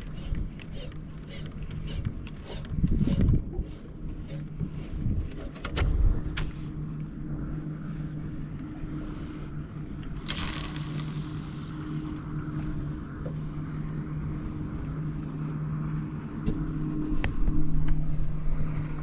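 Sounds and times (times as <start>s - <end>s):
boat engine running: 0.0s - 19.0s
wind and water noise: 0.0s - 19.0s.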